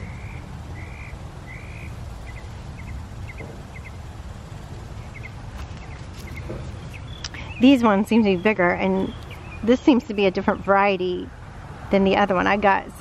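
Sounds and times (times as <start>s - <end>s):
bird calling: 0.0s - 11.3s
steady low rumble: 0.0s - 13.0s.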